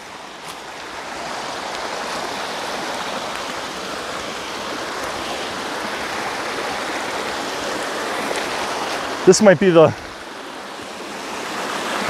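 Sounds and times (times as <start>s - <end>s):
water rushing over bedrock: 0.0s - 12.0s.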